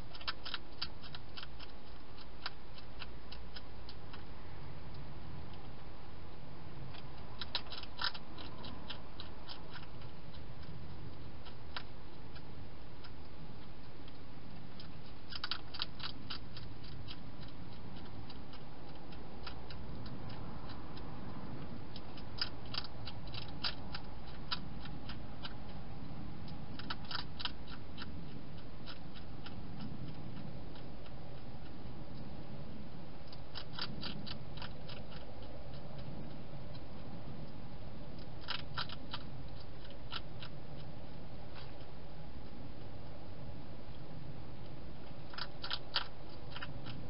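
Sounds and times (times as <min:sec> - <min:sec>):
hedgehog crunching food: 0:00.0 - 0:47.0
steady background hiss: 0:00.0 - 0:47.0.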